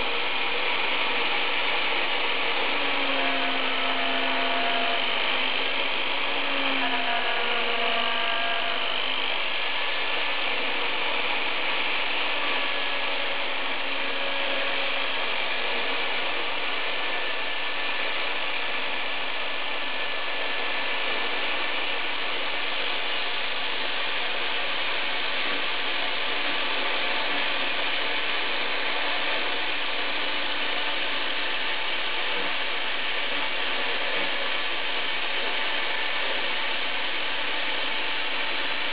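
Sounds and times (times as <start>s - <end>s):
router spindle whirring: 0.0s - 38.9s.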